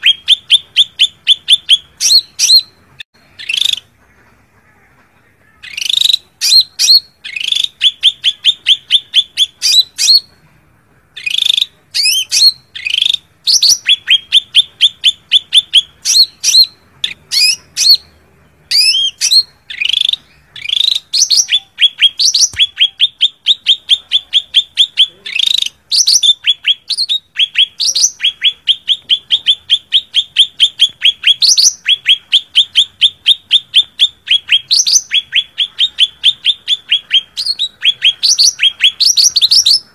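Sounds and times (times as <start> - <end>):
sharp bird chirps: 0.0 - 3.9, 5.6 - 10.4, 11.2 - 39.9
bird chattering call: 0.0 - 4.7, 5.6 - 10.3, 11.2 - 39.9.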